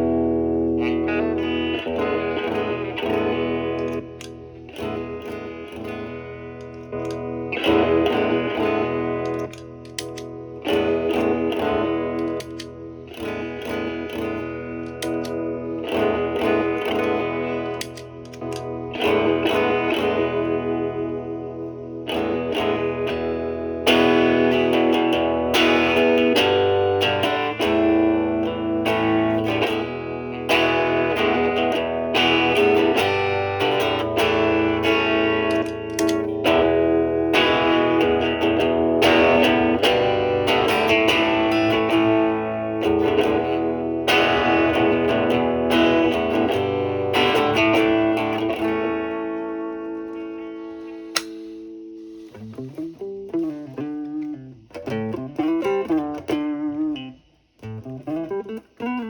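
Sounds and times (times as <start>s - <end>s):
overdriven electric guitar chords: 0.0s - 59.0s.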